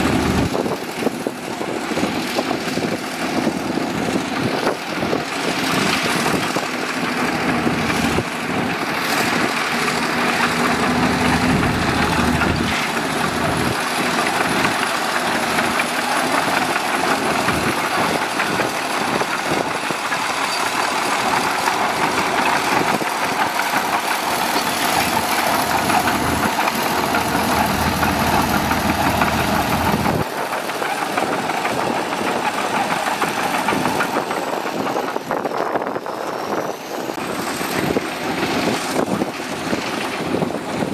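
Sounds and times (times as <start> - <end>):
diesel engine clattering: 0.0 - 40.9.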